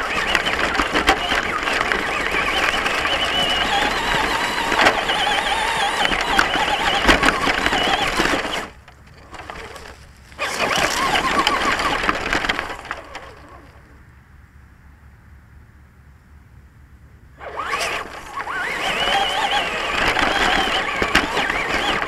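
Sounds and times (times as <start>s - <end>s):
electric motor whining: 0.0s - 13.8s, 17.4s - 22.0s
chassis rattling over rough ground: 0.0s - 14.1s, 17.3s - 22.0s.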